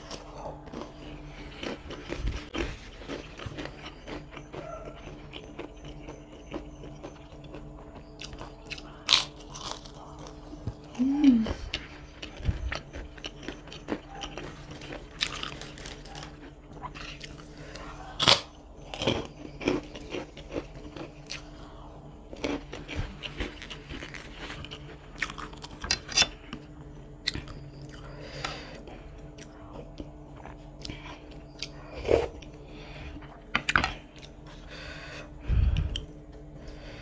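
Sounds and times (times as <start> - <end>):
chewing and biting: 0.0 - 34.6.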